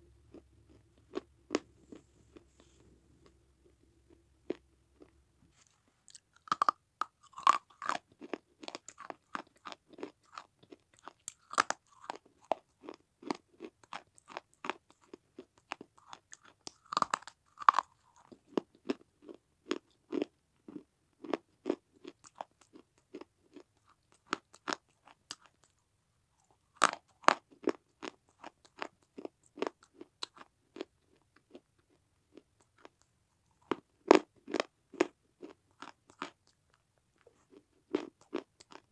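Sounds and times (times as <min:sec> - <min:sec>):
crunching chews: 0:00.3 - 0:03.4, 0:04.1 - 0:25.8, 0:26.4 - 0:38.9.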